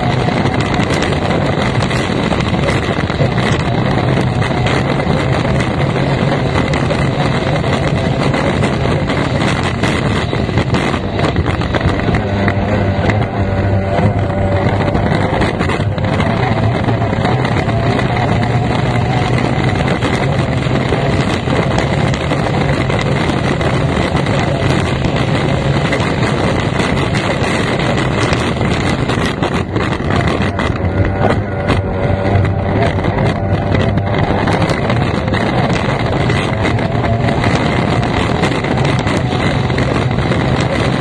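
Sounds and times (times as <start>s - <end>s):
racing boat engine drone: 0.0s - 41.0s
wind rush: 0.0s - 41.0s.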